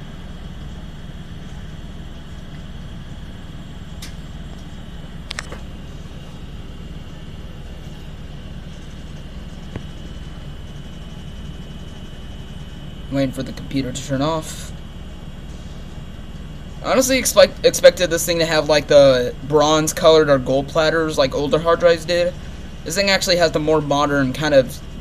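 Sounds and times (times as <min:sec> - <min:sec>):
computer hard drive hum: 0:00.0 - 0:25.0
high whine: 0:00.0 - 0:25.0.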